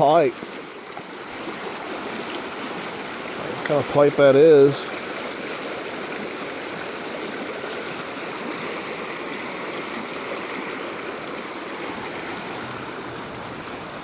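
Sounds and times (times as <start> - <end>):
floodwater rushing in a creek: 0.0 - 14.0.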